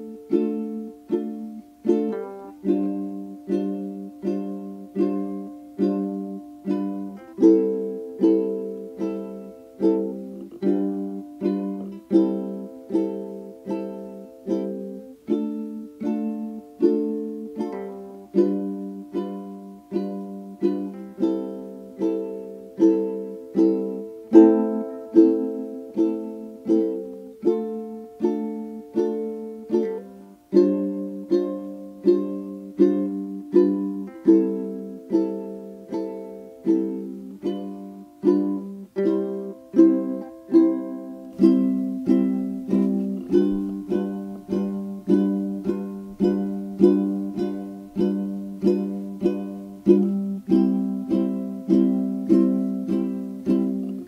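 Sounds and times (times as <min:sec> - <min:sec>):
strummed ukulele chords: 0:00.0 - 0:54.0.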